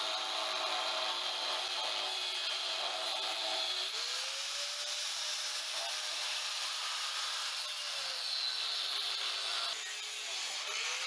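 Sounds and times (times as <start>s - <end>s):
angle grinder cutting steel: 0.0s - 11.0s.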